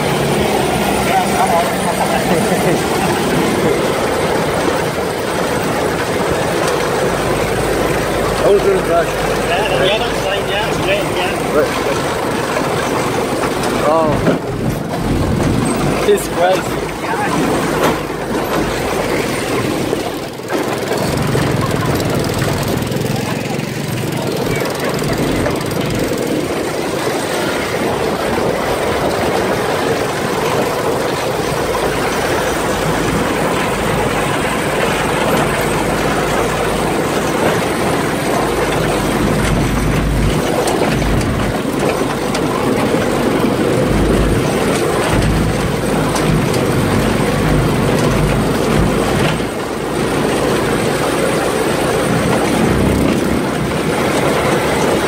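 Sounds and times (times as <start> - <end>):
buggy engine running: 0.0 - 55.0
driving over rough dirt track: 0.0 - 55.0.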